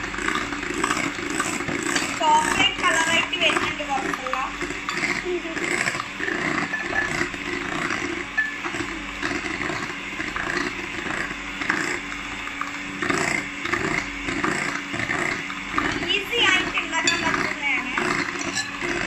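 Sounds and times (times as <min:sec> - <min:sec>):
electric hand mixer whisking: 0:00.0 - 0:19.0.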